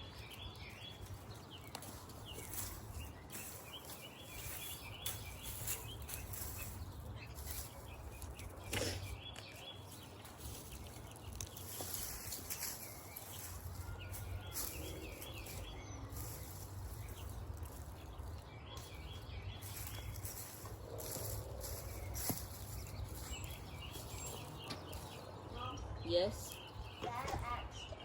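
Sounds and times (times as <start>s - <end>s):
songbird singing wavering notes: 0.0s - 28.0s.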